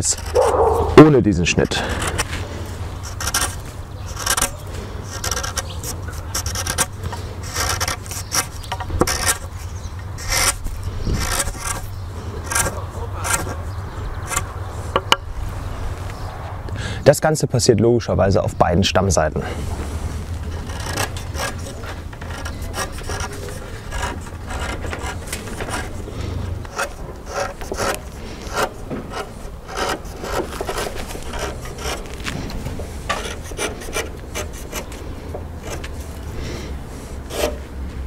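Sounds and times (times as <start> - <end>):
knife scraping wood: 0.0 - 15.2, 19.4 - 37.8.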